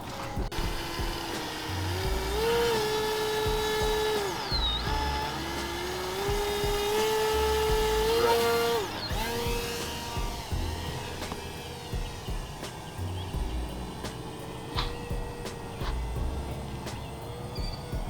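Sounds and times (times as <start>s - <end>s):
model plane motor whining: 0.0s - 18.0s.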